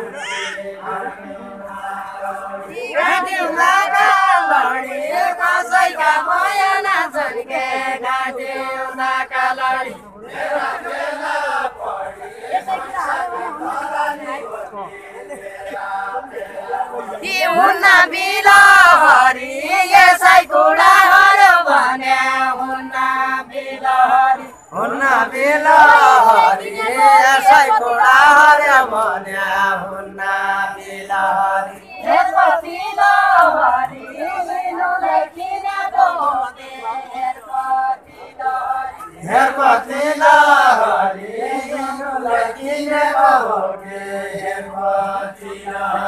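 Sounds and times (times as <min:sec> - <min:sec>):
unaccompanied folk singing: 0:00.0 - 0:46.0.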